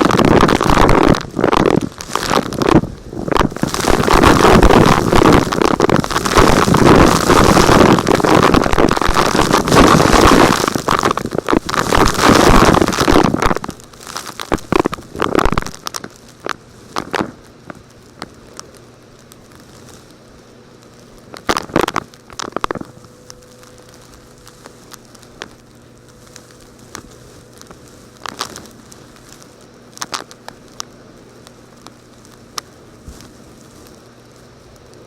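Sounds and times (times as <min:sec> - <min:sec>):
crunches and crackles: 0:00.0 - 0:35.0
faint steady hum: 0:00.0 - 0:35.0.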